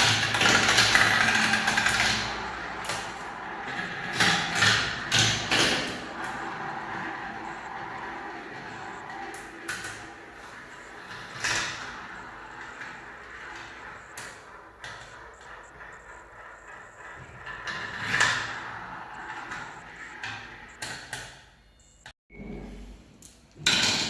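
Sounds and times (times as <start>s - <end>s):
marbles rolling down track: 0.0s - 20.7s
balls clicking on track: 0.0s - 21.2s.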